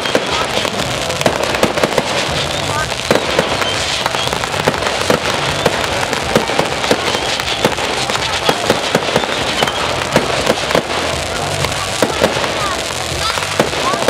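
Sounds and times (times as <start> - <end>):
fireworks bangs: 0.0 - 14.0
fireworks crackle: 0.0 - 14.0.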